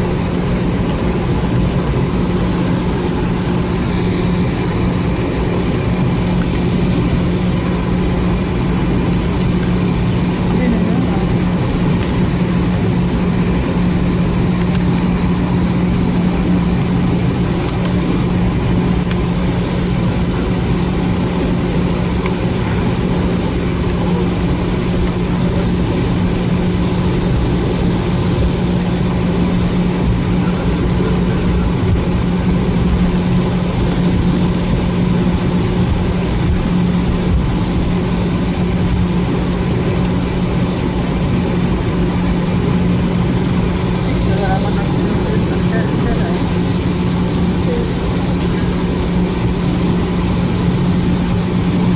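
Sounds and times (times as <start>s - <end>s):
aircraft cabin engine hum: 0.0s - 51.9s.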